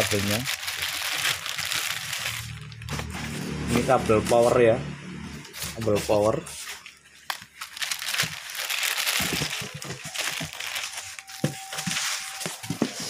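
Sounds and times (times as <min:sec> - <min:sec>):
plastic bag crinkling: 0:00.0 - 0:03.5, 0:05.6 - 0:13.0.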